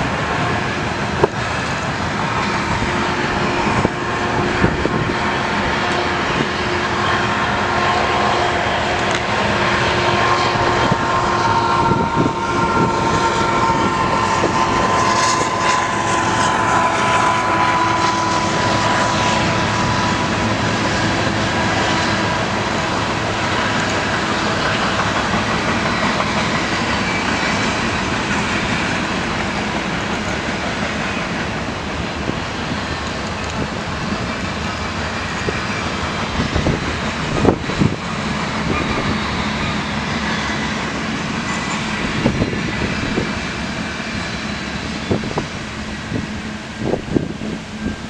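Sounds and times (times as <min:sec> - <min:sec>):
steel wheels rumbling on rails: 0:00.0 - 0:48.0
train cars clanking: 0:00.0 - 0:48.0.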